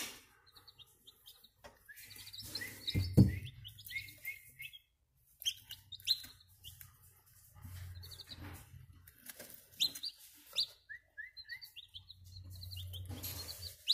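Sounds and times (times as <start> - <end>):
chicks peeping: 0.0 - 13.9.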